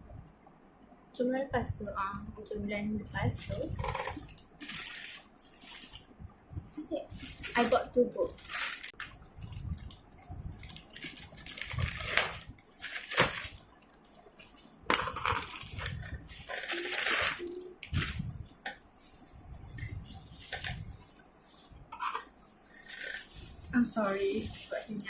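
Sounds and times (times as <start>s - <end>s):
packaging crinkling and rustling: 3.3s - 6.1s, 7.1s - 25.0s.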